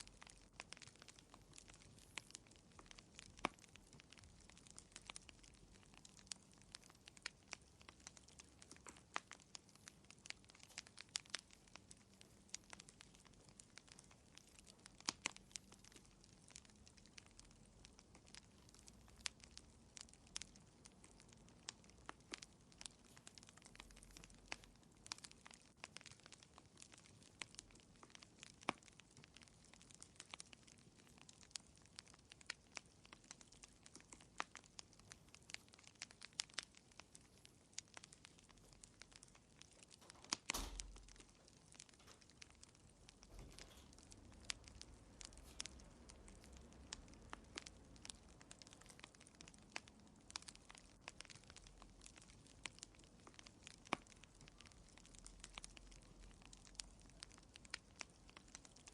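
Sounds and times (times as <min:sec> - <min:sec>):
fire crackling: 0:00.0 - 0:58.9.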